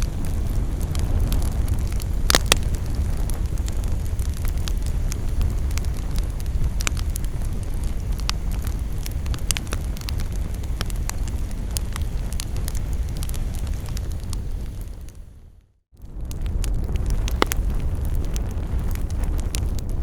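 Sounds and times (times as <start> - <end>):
campfire crackling and popping: 0.0 - 15.3, 16.0 - 20.0
low rumble of fire: 0.0 - 20.0.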